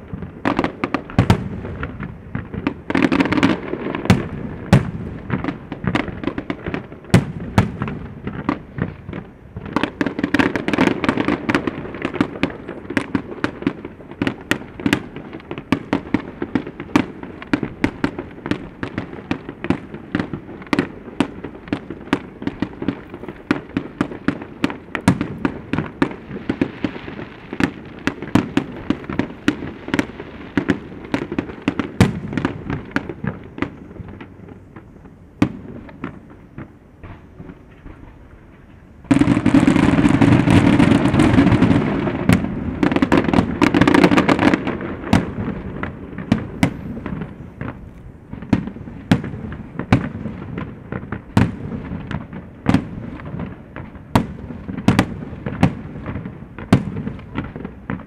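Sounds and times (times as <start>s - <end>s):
fireworks bangs and crackles: 0.0s - 58.0s
heavy fireworks booms: 0.0s - 58.0s.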